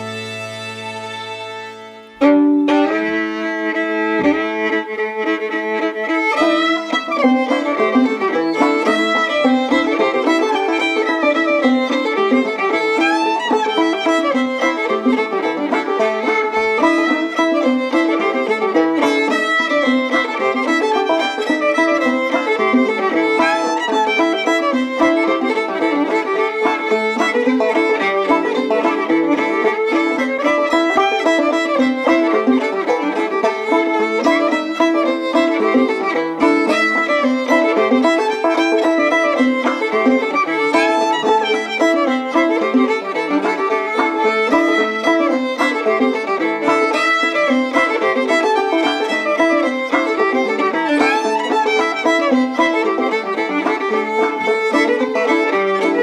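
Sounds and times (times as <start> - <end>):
fiddle tune: 0.0 - 56.0.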